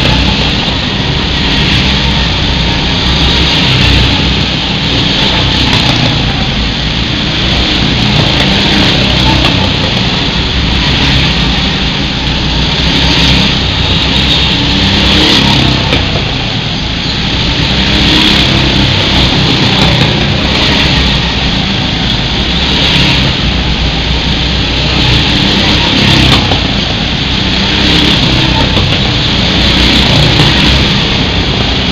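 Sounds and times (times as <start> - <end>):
go-kart engines running hard: 0.0 - 31.9.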